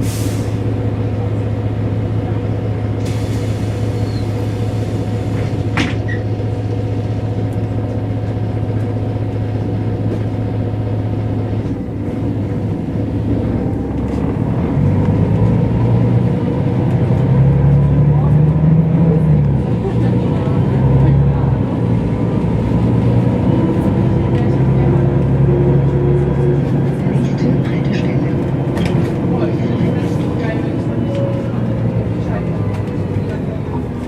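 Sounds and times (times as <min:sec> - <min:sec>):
bus diesel engine: 0:00.0 - 0:34.0.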